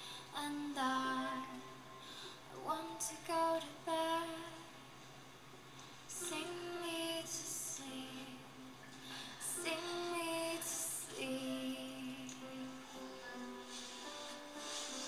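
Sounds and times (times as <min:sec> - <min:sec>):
woman singing softly: 0:00.0 - 0:01.8, 0:02.5 - 0:04.8, 0:06.1 - 0:15.0
quiet music: 0:00.0 - 0:15.0.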